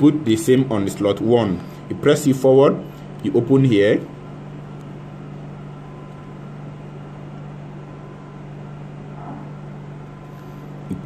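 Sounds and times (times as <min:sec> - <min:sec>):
low hum of room machinery: 0:00.0 - 0:11.0.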